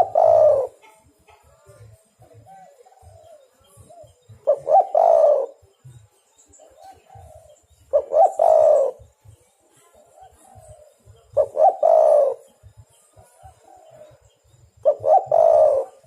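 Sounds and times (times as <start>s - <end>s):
dove cooing: 0.0s - 5.7s, 6.6s - 16.0s.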